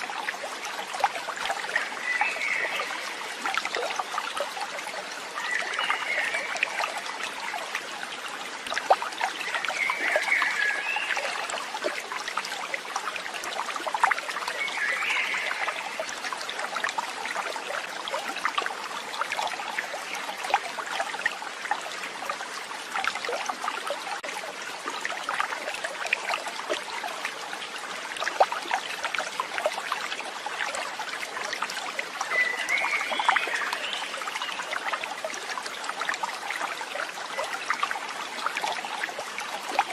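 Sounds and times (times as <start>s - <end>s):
water trickling and babbling: 0.0s - 39.9s.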